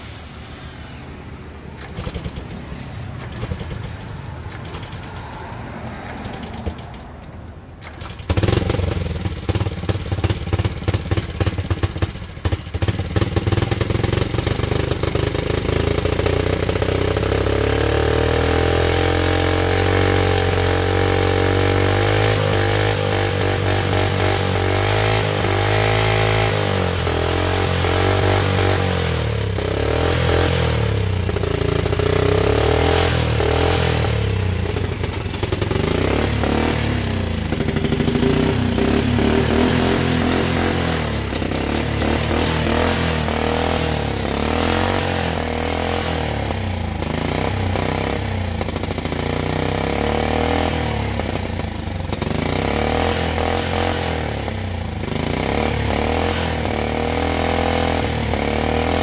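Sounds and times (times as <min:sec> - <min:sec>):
single-cylinder motorcycle engine running: 0:01.8 - 0:05.4, 0:07.8 - 0:59.0.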